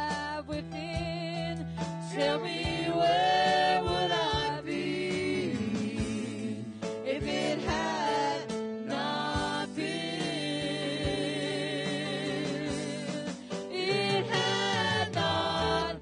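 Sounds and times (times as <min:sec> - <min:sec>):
keyboard: 0:00.0 - 0:16.0
group singing gospel with vibrato: 0:00.9 - 0:16.0.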